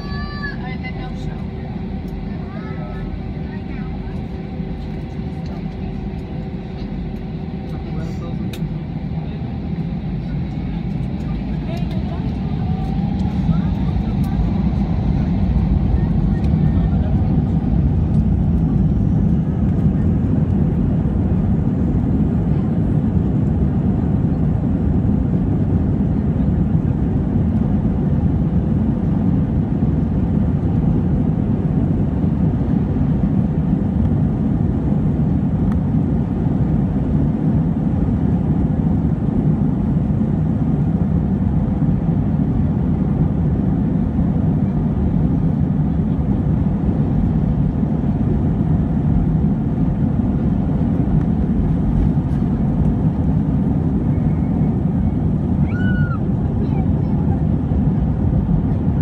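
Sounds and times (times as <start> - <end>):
jet engines deep rumble: 0.0 - 59.0.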